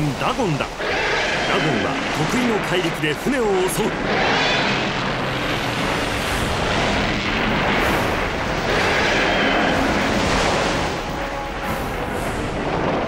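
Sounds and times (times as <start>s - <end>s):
dense rumbling crashes and blasts: 0.0s - 13.0s.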